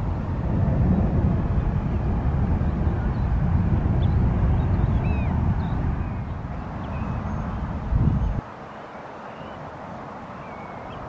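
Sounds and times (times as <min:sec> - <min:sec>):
jet airliner low rumble: 0:00.0 - 0:11.0.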